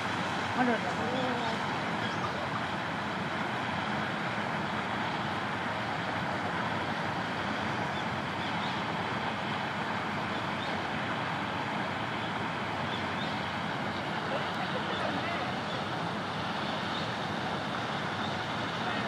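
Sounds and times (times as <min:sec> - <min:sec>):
steady outdoor rush: 0:00.0 - 0:19.0.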